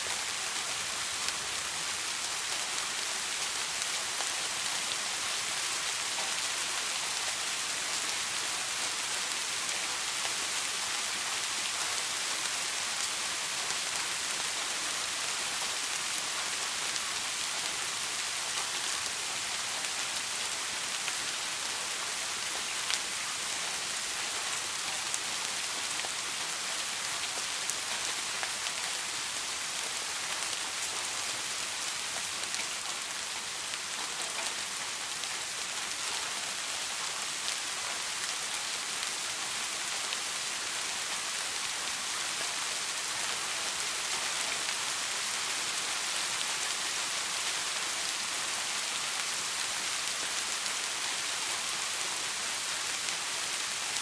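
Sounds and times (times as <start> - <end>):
soft rain: 0.0 - 54.0.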